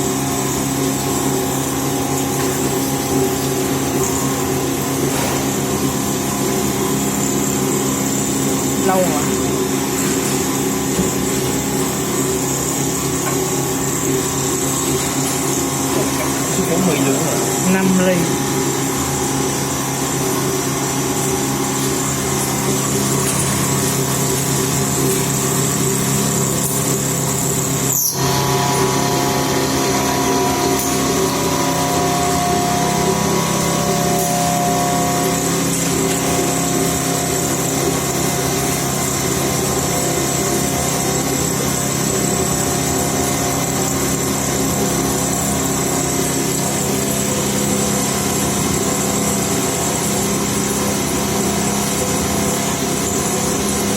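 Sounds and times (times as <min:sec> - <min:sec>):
milling machine whine: 0:00.0 - 0:53.9.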